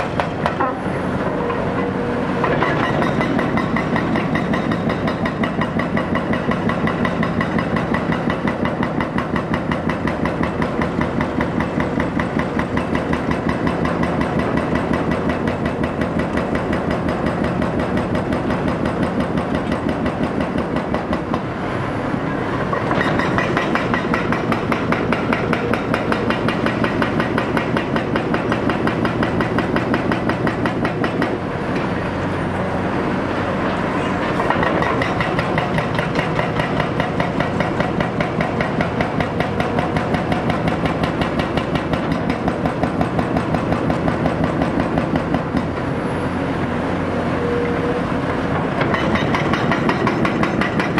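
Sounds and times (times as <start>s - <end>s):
hydraulic breaker hammering concrete: 2.4s - 21.5s, 22.7s - 31.4s, 34.4s - 45.8s, 48.6s - 50.9s.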